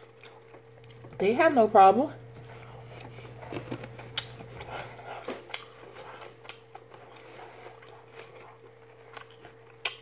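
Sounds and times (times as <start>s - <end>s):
person chewing: 0.0s - 1.2s, 2.3s - 10.0s.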